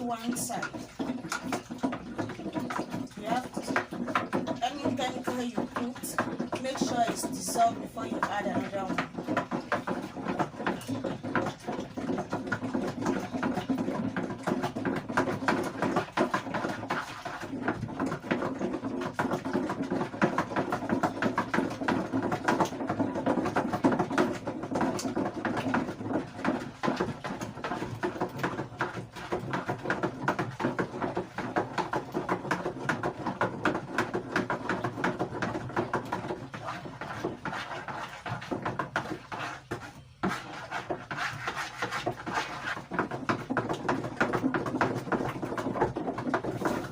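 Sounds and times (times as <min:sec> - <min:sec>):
liquid being stirred in a container: 0:00.0 - 0:46.9
stirrer knocking against container: 0:00.0 - 0:46.9.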